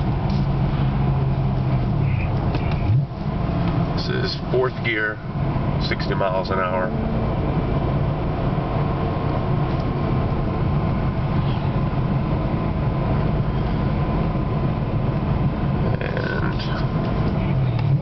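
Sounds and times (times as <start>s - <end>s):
car exhaust from inside cabin: 0.0s - 18.0s
low engine hum: 0.0s - 18.0s
road and tyre noise: 0.0s - 18.0s.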